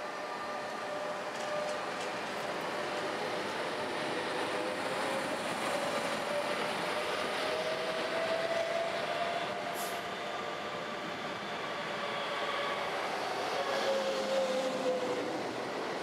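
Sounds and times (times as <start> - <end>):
tram wheels rumbling on track: 0.2 - 16.0.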